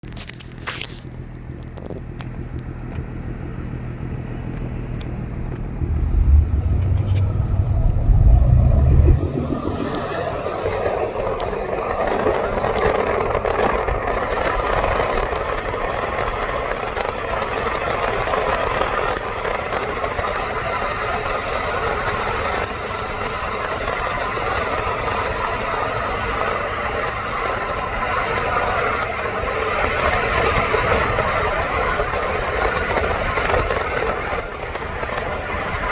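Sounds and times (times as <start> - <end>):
car engine rumble: 0.0 - 35.9
rushing road noise: 0.2 - 35.9.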